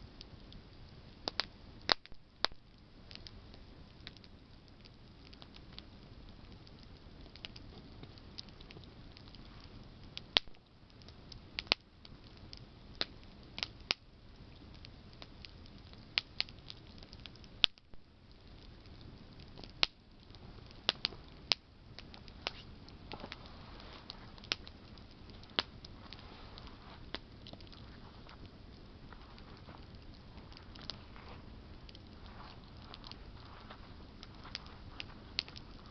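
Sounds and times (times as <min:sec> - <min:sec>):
campfire crackling and popping: 0:00.0 - 0:35.9
low hiss of flame: 0:00.0 - 0:35.9.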